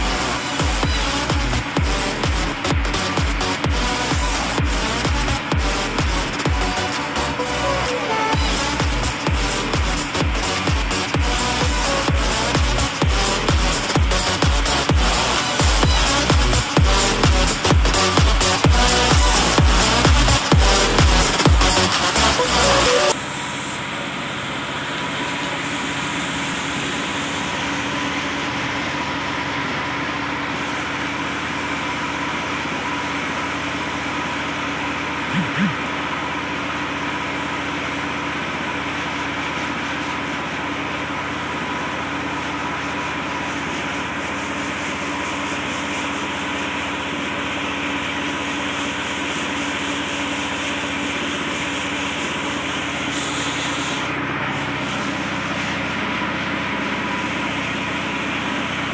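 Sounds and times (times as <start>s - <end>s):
machine humming and hissing: 0.0s - 58.9s.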